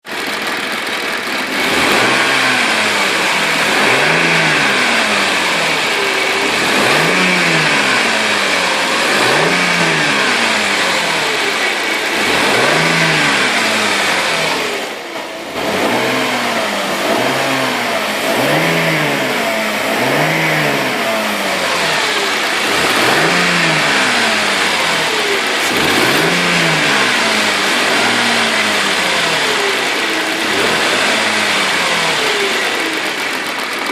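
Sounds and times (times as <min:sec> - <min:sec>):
car engine revving in blips: 0:00.2 - 0:33.9.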